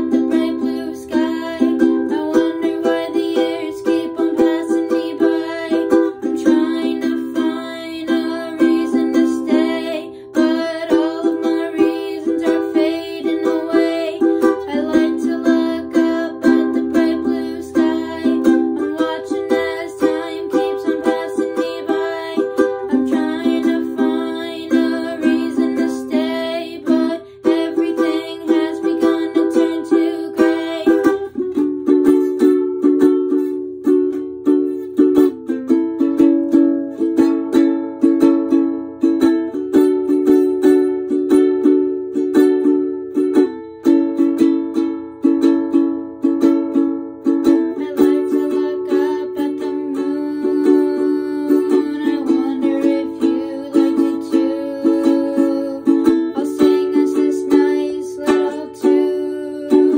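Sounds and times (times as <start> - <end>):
person singing: 0.0 - 59.9
ukulele strumming chords: 0.0 - 59.9.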